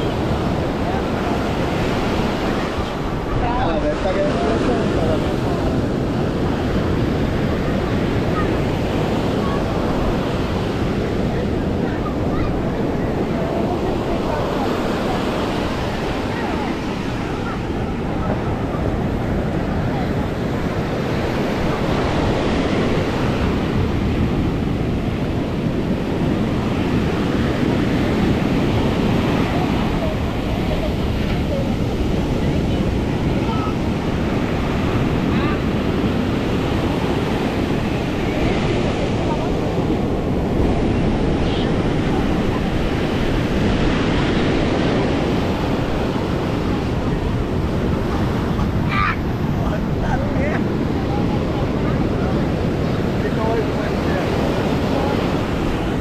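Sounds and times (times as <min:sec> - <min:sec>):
ocean surf breaking on sand: 0:00.0 - 0:56.0
wind buffeting the microphone: 0:00.0 - 0:56.0.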